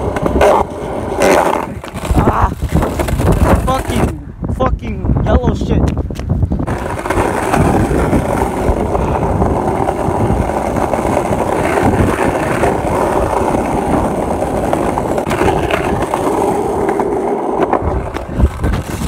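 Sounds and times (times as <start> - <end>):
skateboard wheels rolling on asphalt: 0.0 - 4.2, 5.8 - 19.0.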